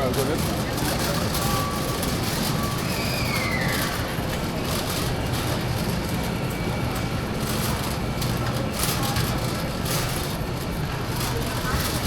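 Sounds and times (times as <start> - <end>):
busy store background noise: 0.0 - 12.0
cart clicks and rattles: 0.0 - 12.0
shopping cart wheels rolling: 0.0 - 12.0.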